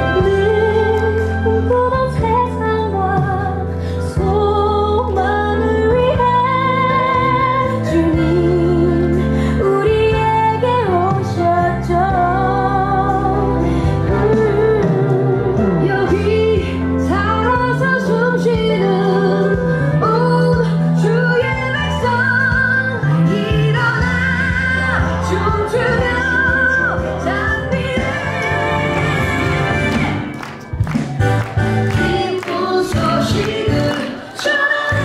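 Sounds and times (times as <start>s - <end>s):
woman singing with vibrato: 0.0s - 30.2s, 31.9s - 35.0s
instrumental backing: 0.0s - 35.0s.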